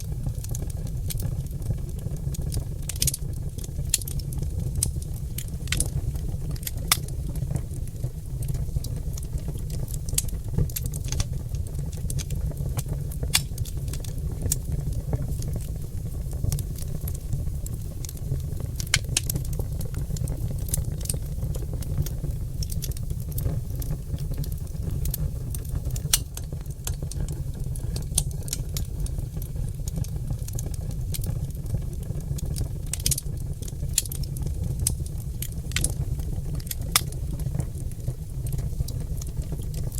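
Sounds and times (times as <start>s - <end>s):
logs crackling and popping: 0.0s - 39.9s
low rumble of fire: 0.0s - 39.9s.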